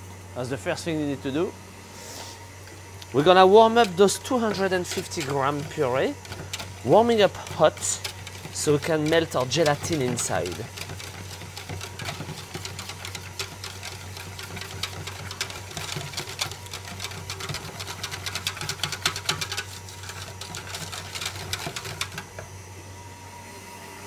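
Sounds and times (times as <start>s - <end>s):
whisk rattling in metal bowl: 3.1s - 22.4s.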